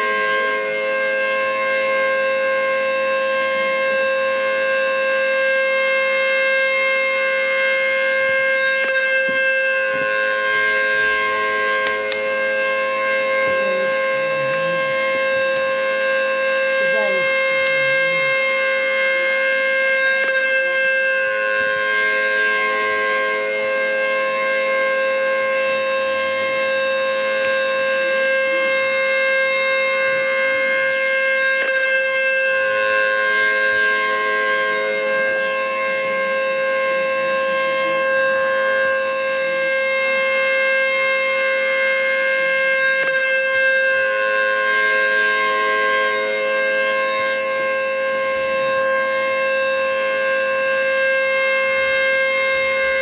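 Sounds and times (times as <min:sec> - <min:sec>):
tornado warning siren: 0:00.0 - 0:53.0.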